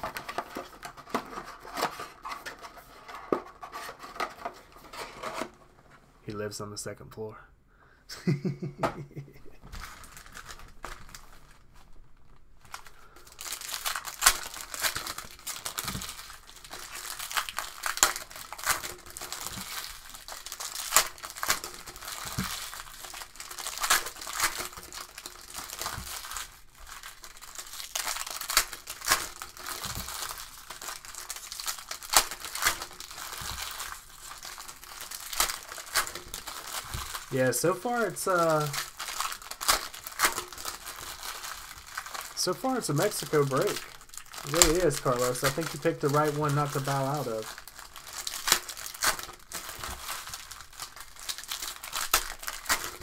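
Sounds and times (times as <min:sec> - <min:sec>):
foil wrapper crinkling and tearing: 0:00.0 - 0:05.6, 0:09.6 - 0:53.0.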